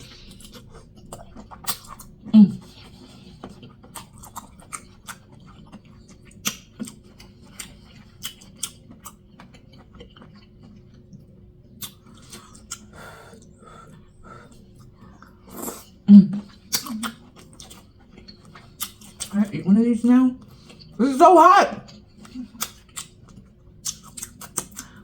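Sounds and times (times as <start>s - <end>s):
close chewing with lip smacks: 0.0s - 19.6s, 20.4s - 21.0s, 21.8s - 25.0s.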